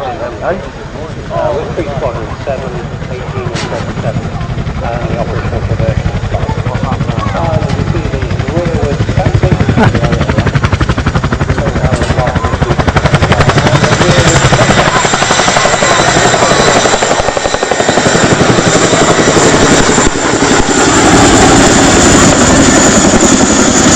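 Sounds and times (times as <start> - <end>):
helicopter rotors chopping: 0.0 - 23.9
high turbine whine: 0.0 - 23.9.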